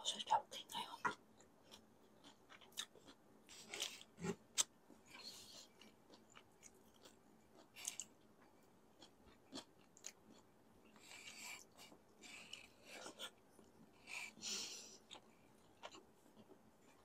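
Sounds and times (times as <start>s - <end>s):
chewing food: 1.0s - 17.0s.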